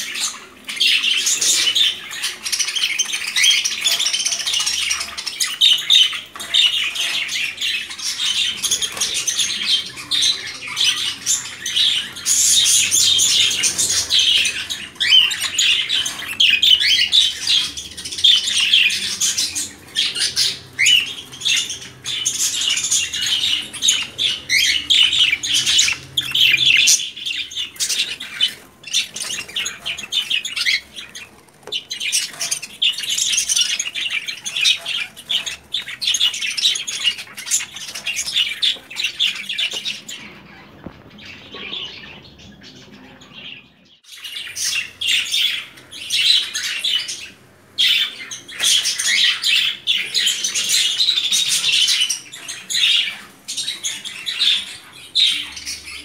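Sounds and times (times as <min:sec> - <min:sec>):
budgies chattering: 0:00.0 - 0:56.0.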